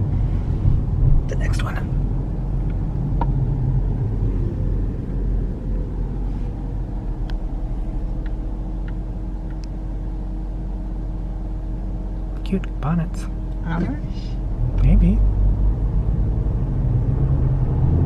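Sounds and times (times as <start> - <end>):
car engine and tyre rumble: 0.0 - 18.0
low steady drone: 0.0 - 18.0.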